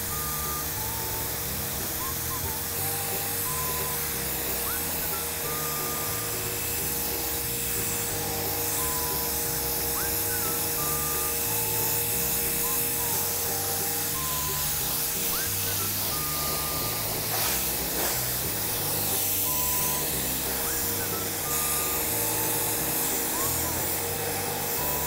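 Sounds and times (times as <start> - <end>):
background music with bass: 0.0 - 25.0
machine hum: 0.0 - 25.0
pressure washer jet hissing: 0.3 - 25.0.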